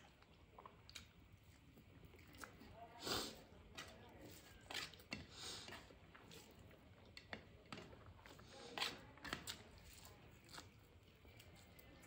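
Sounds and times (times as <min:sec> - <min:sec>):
chewing: 0:00.0 - 0:12.0
fingers squishing rice on a plate: 0:00.2 - 0:12.0.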